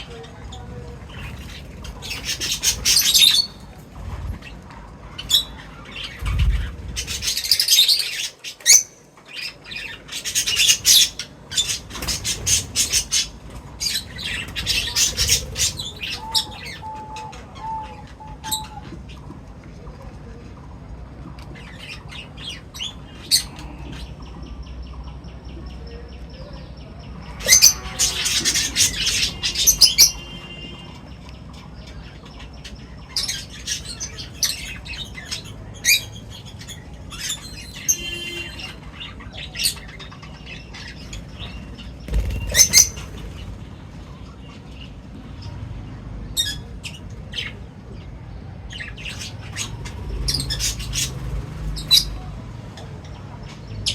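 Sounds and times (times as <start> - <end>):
birds chirping and calling: 0.0 - 53.9.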